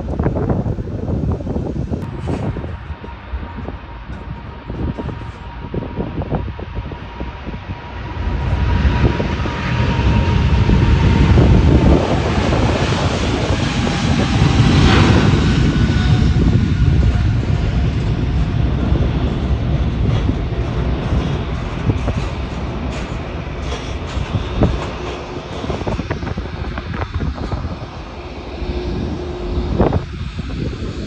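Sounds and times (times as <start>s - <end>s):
jet engines rumbling: 0.0s - 31.0s.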